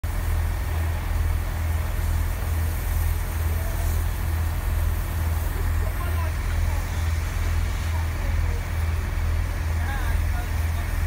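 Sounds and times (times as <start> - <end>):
steam locomotive rumbling: 0.0 - 11.0.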